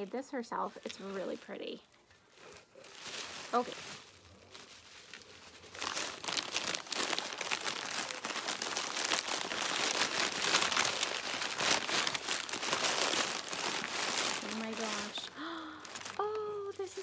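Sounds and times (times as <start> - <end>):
paper and plastic wrap crinkling: 0.0 - 17.0.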